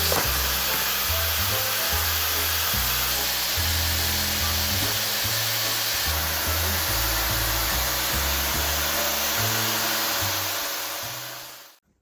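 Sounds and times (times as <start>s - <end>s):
power tool hissing on steel: 0.0s - 11.8s.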